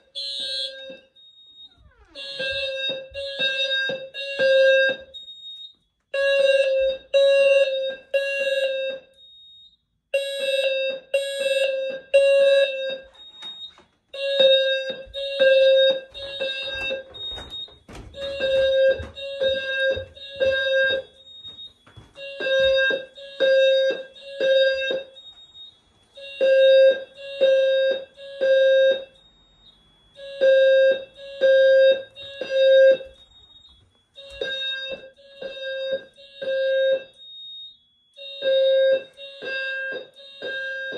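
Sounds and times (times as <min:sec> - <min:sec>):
fire alarm beeping: 0:00.0 - 0:40.9.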